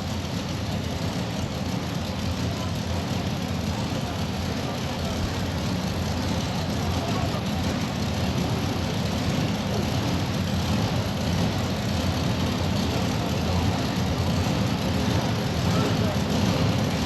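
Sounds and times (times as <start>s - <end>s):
tractor engine running loud: 0.0s - 17.0s.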